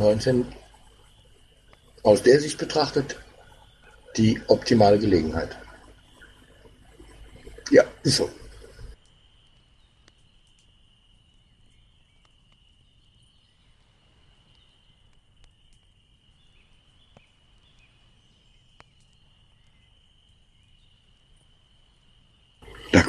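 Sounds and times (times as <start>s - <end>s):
faint ticks: 0.0s - 2.1s, 5.5s - 22.7s.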